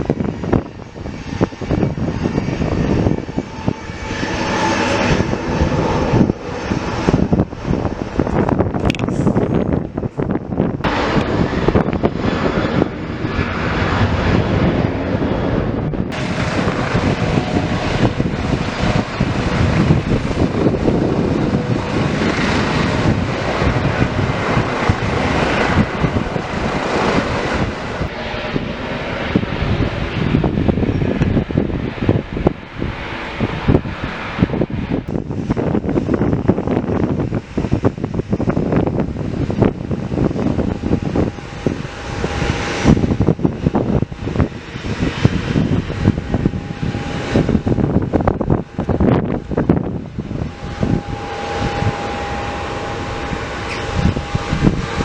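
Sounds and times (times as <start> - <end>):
aircraft engines running: 0.0 - 55.0
wind buffeting microphone: 0.0 - 55.0.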